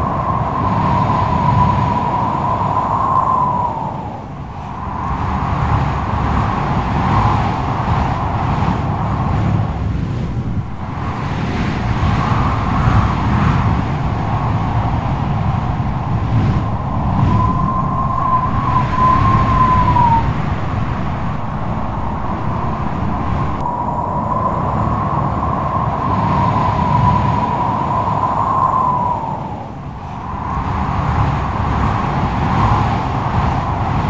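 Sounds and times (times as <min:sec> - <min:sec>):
howling wind whistle: 0:00.0 - 0:34.0
strong wind blowing: 0:00.0 - 0:34.0.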